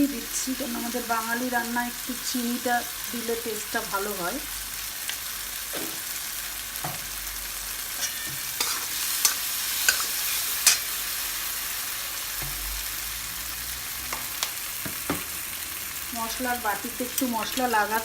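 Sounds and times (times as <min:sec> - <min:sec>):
masala sizzling in oil: 0:00.0 - 0:18.0.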